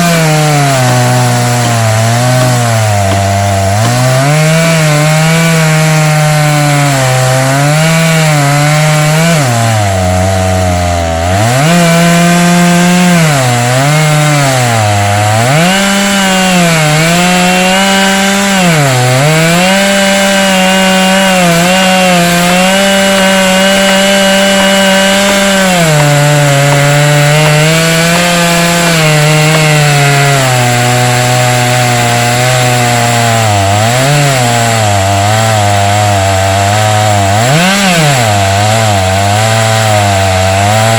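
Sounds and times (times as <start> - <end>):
chainsaw cutting through log: 0.0 - 40.9.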